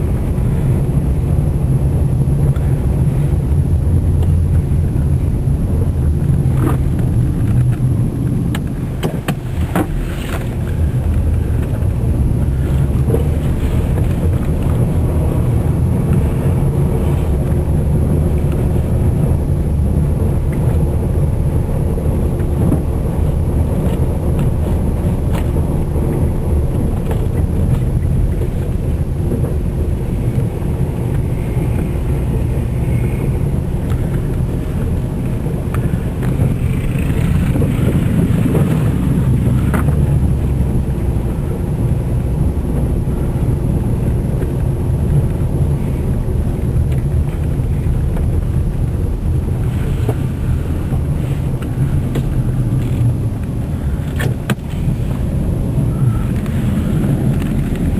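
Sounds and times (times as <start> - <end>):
car engine and tyres drone: 0.0 - 57.9.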